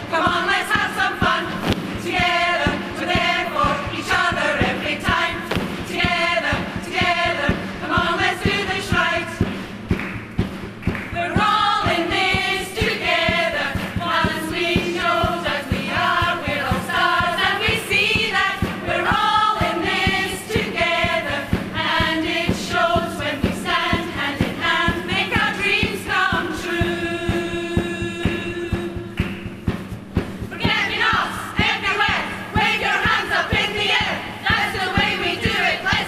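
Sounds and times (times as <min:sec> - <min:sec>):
women's choir singing: 0:00.0 - 0:29.8, 0:30.5 - 0:36.0
steady beat: 0:00.0 - 0:36.0.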